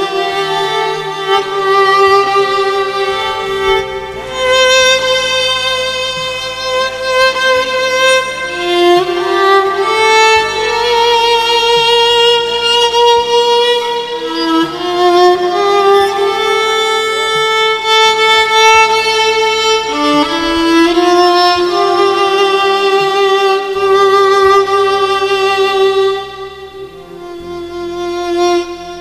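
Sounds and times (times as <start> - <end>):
low held accompaniment notes: 0.0 - 29.0
solo violin melody: 0.0 - 29.0.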